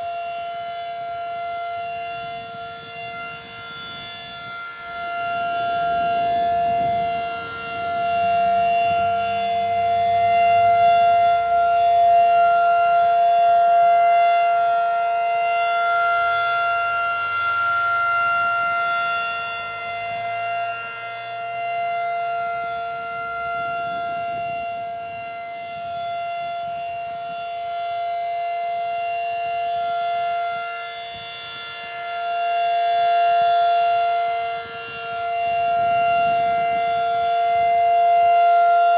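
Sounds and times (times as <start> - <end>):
rotating warning siren steady tone: 0.0 - 38.9.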